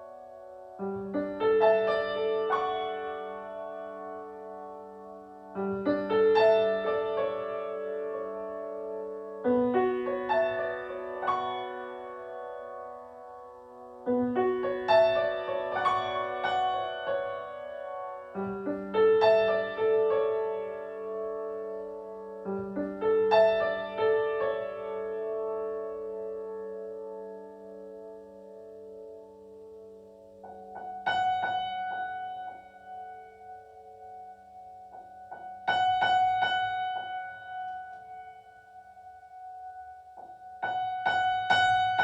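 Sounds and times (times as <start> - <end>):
slow piano-like keyboard music: 0.0 - 42.0.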